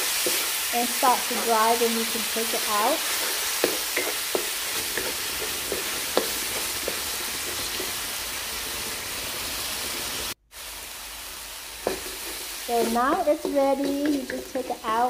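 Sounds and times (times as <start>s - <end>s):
wooden spatula scraping wok: 0.0s - 10.4s, 11.8s - 15.0s
curry paste sizzling in oil: 0.0s - 15.0s.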